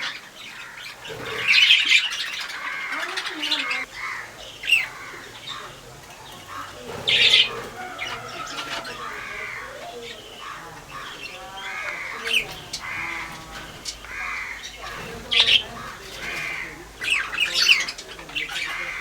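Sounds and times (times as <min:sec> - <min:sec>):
birds squawking and calling: 0:00.0 - 0:19.0.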